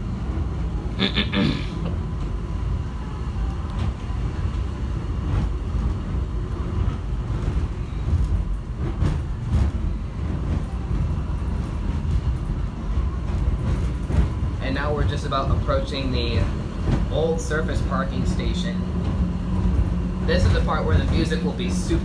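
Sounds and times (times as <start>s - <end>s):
subway train rumbling: 0.0s - 22.0s.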